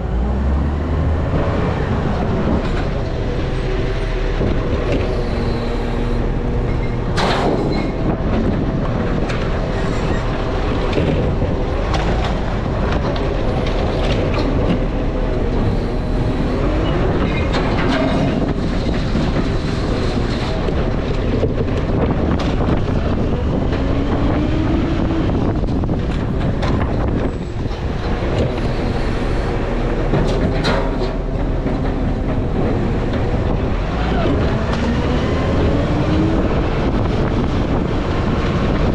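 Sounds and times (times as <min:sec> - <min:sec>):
garbage truck diesel engine: 0:00.0 - 0:38.9
clunks and rattles: 0:01.2 - 0:38.9.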